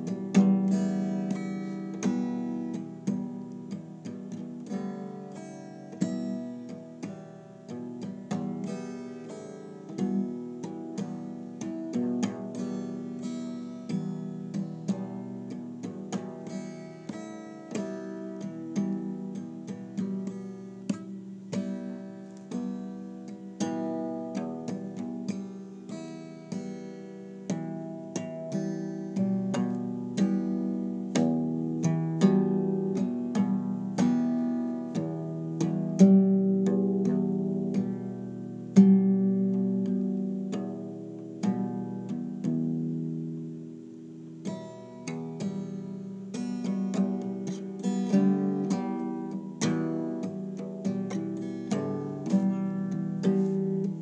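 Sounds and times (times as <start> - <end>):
plucked string instrument music: 0.0 - 54.0.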